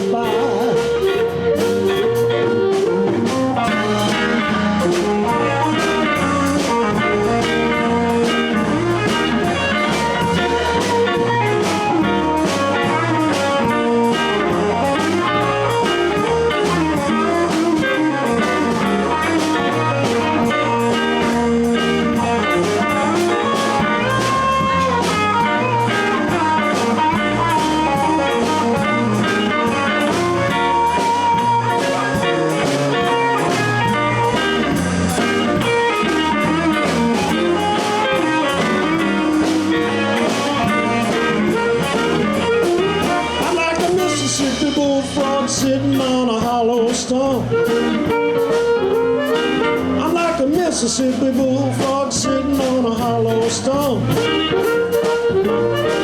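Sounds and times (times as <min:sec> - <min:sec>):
blues band playing: 0:00.0 - 0:56.0.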